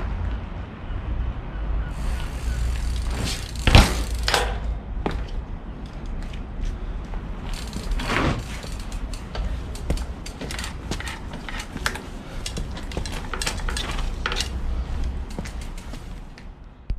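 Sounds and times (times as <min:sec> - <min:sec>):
bike clicks and rattles: 0:01.9 - 0:16.8.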